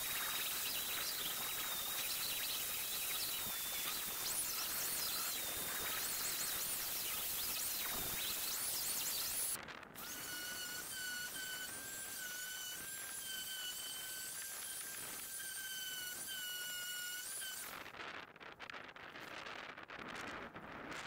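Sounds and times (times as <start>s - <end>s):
sped-up sander whine: 0.0s - 21.0s.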